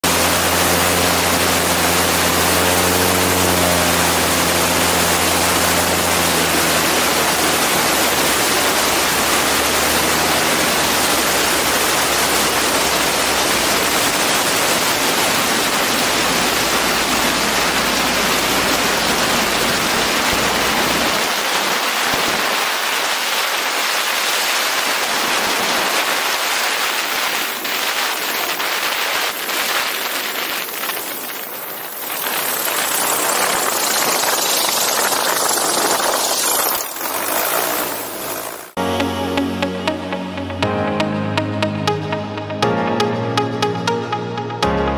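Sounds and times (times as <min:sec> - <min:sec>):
aircraft engine low hum: 0:00.0 - 0:42.6.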